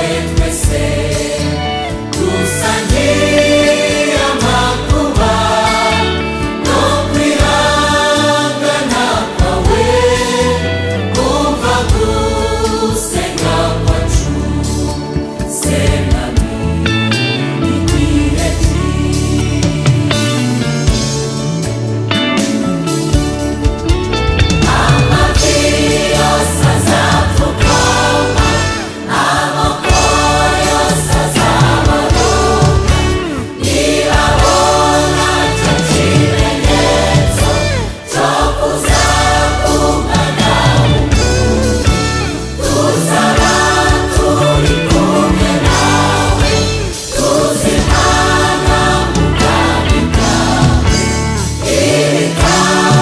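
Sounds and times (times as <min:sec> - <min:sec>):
band with bass and drums: 0:00.0 - 0:53.0
choir singing gospel in harmony: 0:00.0 - 0:53.0.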